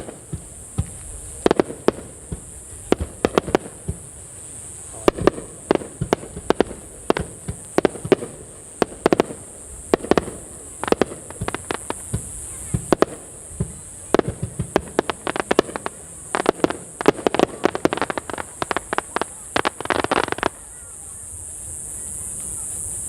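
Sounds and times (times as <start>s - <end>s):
fireworks bangs and crackles: 0.0s - 23.0s
steady high hiss: 0.0s - 23.0s.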